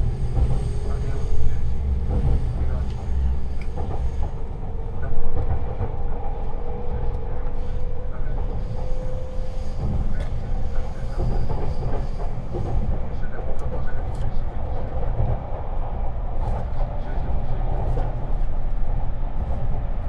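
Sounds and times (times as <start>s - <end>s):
train car rumble: 0.0s - 20.0s.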